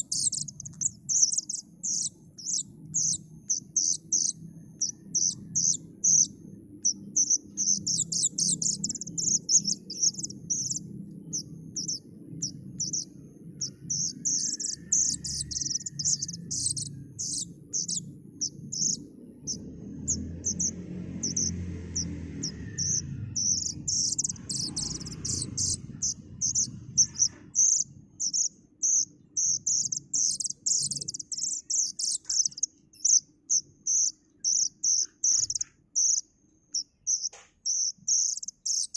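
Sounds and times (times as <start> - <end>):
steady low rumble: 0.0 - 36.2
young bird begging chirps: 0.0 - 38.9.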